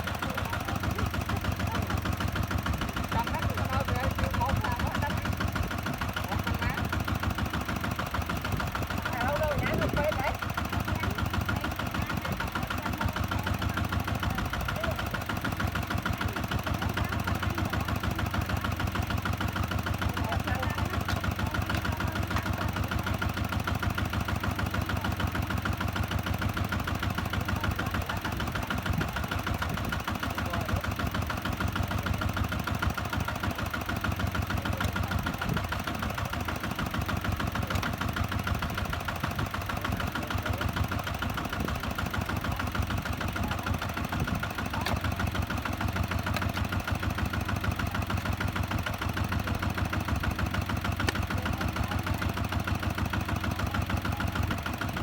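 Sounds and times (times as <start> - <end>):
diesel tractor engine chugging: 0.0 - 55.0.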